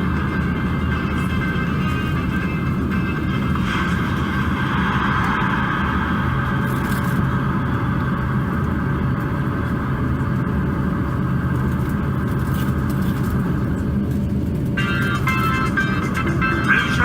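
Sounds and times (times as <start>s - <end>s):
aircraft cabin rumble and hum: 0.0s - 17.0s.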